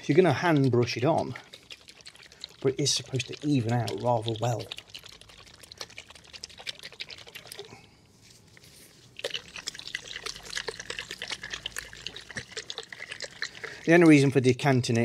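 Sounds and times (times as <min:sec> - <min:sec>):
paint trickling into tin: 0:00.0 - 0:07.8, 0:08.9 - 0:14.9.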